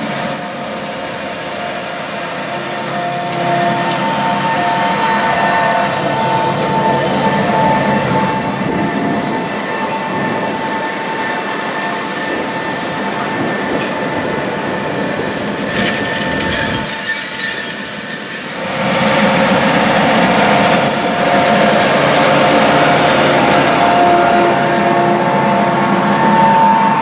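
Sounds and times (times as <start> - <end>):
mechanical whine: 0.0 - 27.0.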